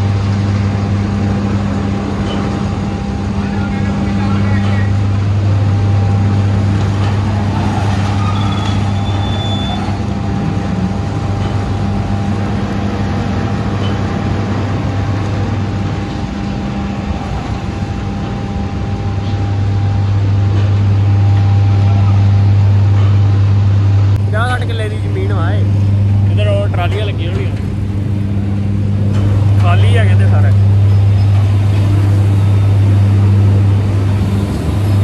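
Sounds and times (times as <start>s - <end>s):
machinery low hum: 0.0s - 35.0s.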